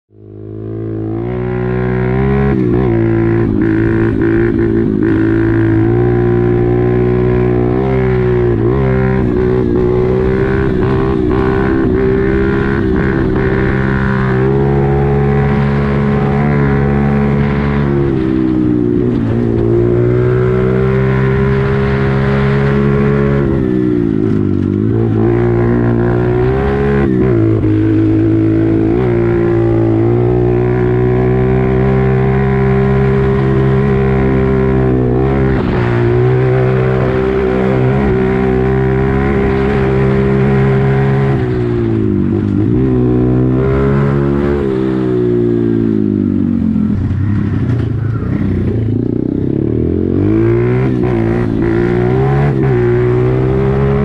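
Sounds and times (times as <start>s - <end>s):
motorbike engine while riding: 0.1s - 54.0s.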